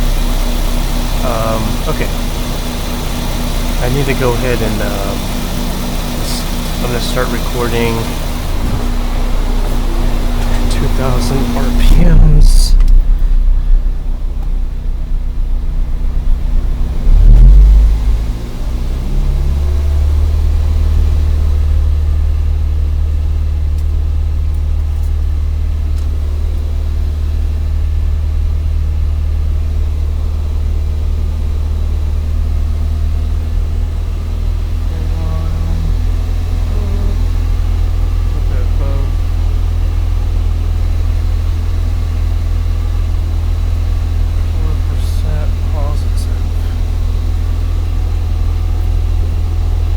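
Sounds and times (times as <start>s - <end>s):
car engine revving and droning: 0.0s - 49.9s.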